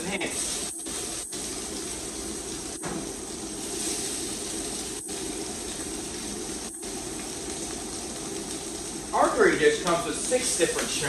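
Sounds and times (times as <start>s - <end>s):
shrimp searing in hot oil: 0.0s - 11.0s.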